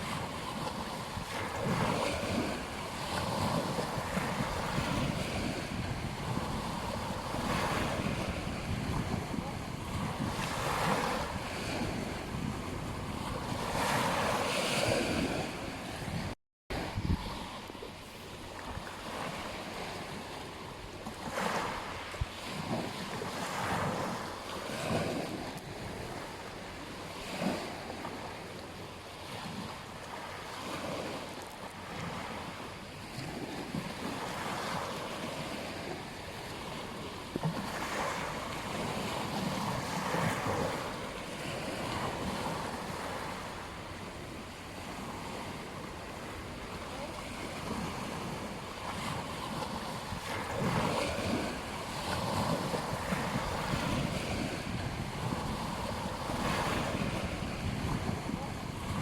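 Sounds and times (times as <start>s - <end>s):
wind buffeting microphone: 0.0s - 28.2s, 33.0s - 59.0s
ocean waves breaking on beach: 0.0s - 59.0s.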